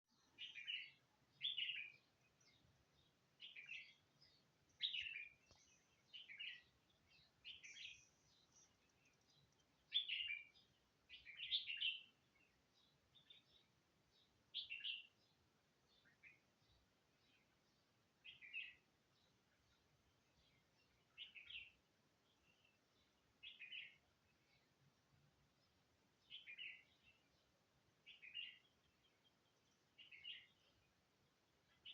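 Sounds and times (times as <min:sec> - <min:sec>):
birds twittering: 0:00.1 - 0:24.8, 0:25.5 - 0:31.9.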